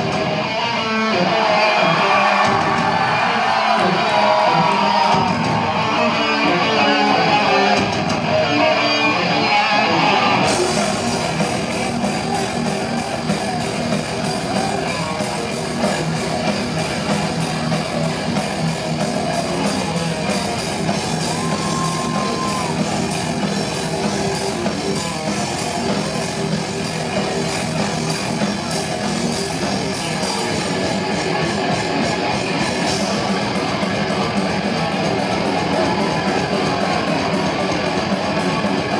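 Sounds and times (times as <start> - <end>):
distorted electric guitars: 0.0 - 38.9
heavy metal band playing: 0.0 - 38.9.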